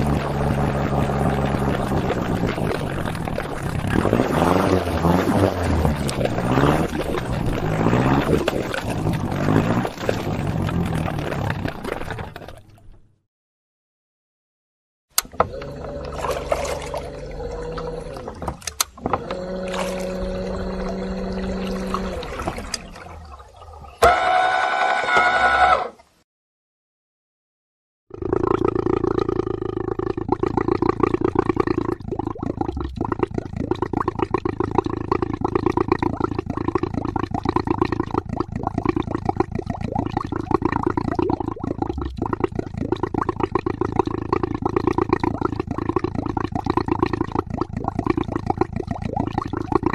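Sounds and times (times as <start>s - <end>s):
boat engine running: 0.0s - 13.2s, 15.1s - 25.0s, 28.2s - 49.9s
water sounds: 0.0s - 13.2s, 15.1s - 25.0s, 28.1s - 49.9s.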